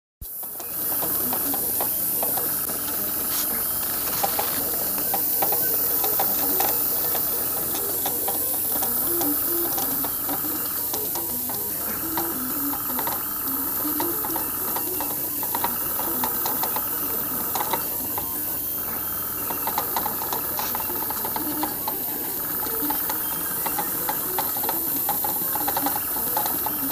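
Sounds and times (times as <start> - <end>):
light machine ticks: 0.2 - 26.9
stepper motors whining: 0.2 - 26.9
airbrush hiss of compressed air: 0.3 - 26.9.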